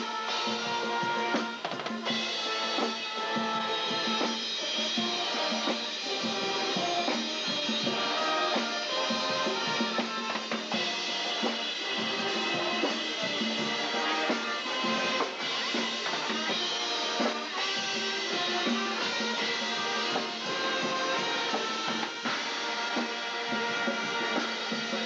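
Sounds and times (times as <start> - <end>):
brass chords: 0.0 - 25.0
snare and bass drums: 0.0 - 25.0.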